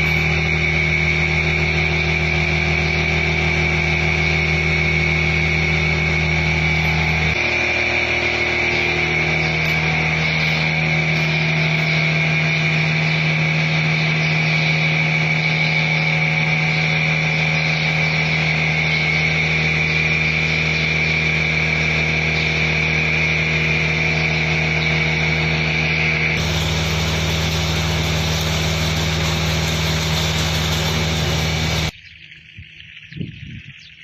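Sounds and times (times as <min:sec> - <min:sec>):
machinery high whine: 0:00.0 - 0:32.0
machinery low hum: 0:00.0 - 0:32.0.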